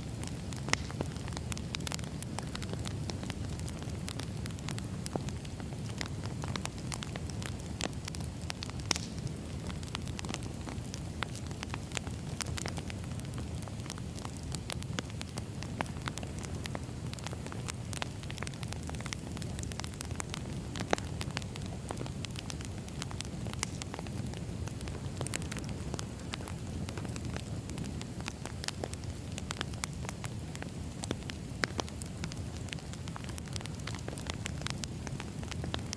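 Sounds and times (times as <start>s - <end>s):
campfire burning: 0.0s - 35.9s
campfire pops and crackles: 0.0s - 35.9s.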